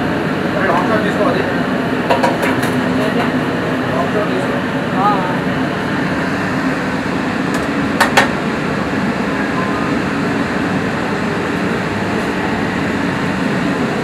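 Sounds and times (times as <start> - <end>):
kitchen hum: 0.5 - 14.0.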